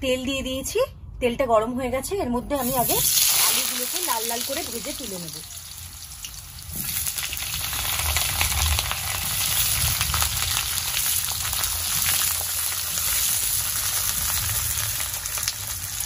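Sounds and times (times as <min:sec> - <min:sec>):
potatoes sizzling in oil: 0:02.6 - 0:16.0.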